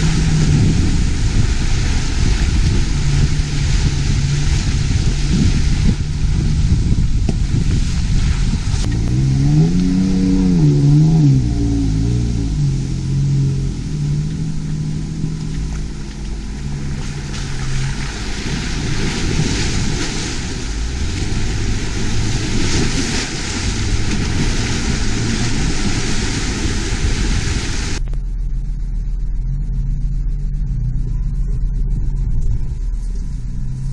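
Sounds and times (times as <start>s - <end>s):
tyre and wind hiss: 0.0s - 28.0s
low rumble: 0.0s - 33.9s
vehicle engine droning: 0.0s - 33.9s.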